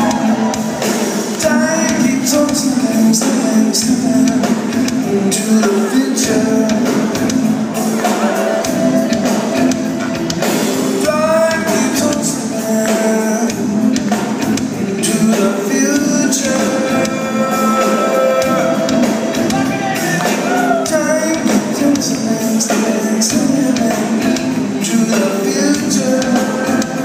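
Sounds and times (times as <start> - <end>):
bass: 0.0 - 27.0
drums: 0.0 - 27.0
electric guitars: 0.0 - 27.0
keyboards: 0.0 - 27.0.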